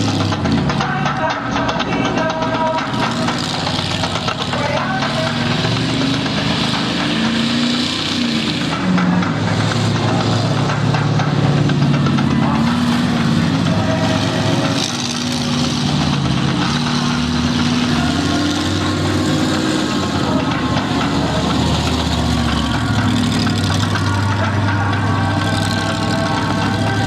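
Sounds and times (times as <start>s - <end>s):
monster truck engines running: 0.0s - 27.0s.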